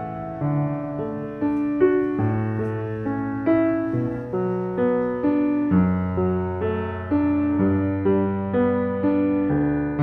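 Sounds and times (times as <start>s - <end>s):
slow solo piano: 0.0s - 10.0s.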